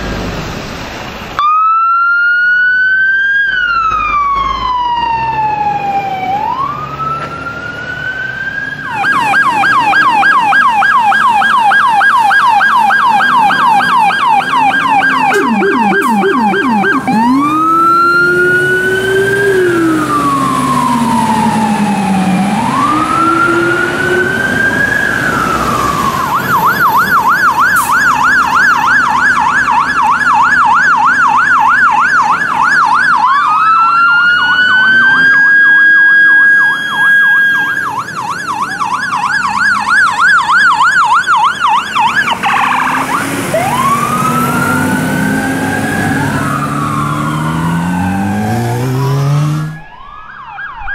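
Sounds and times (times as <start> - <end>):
second siren wailing: 1.4 - 50.9
siren wailing: 1.4 - 50.9
siren yelping: 1.4 - 50.9.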